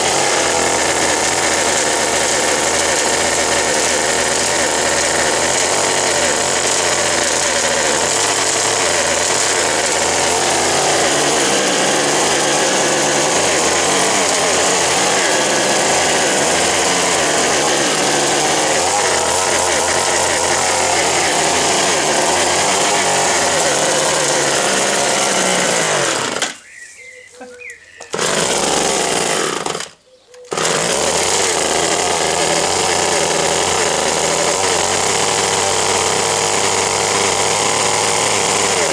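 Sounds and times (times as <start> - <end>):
hedge trimmer engine running: 0.0 - 26.6, 28.1 - 38.9.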